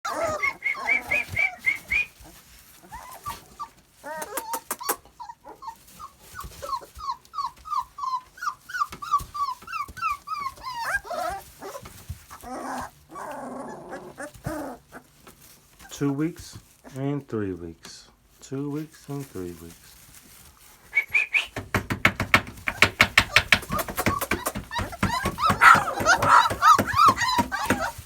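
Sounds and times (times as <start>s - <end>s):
puppies whimpering and squeaking: 0.1s - 17.0s, 19.9s - 28.0s.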